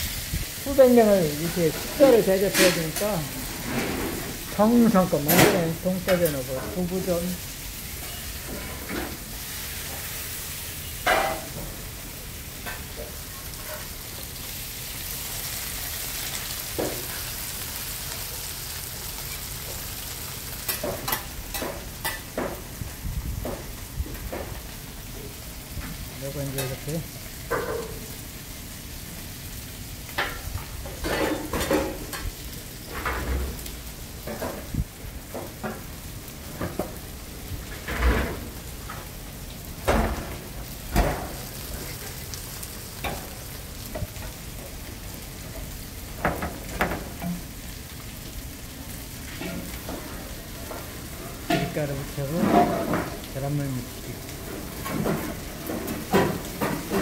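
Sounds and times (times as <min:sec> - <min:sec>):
food frying in oil: 0:00.0 - 0:57.0.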